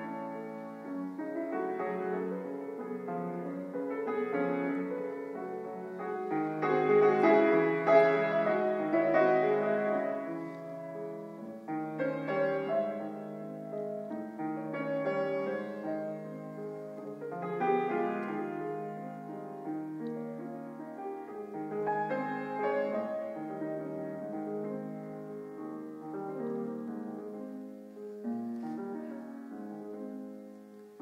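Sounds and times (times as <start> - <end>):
grand piano piece: 0.0 - 31.0.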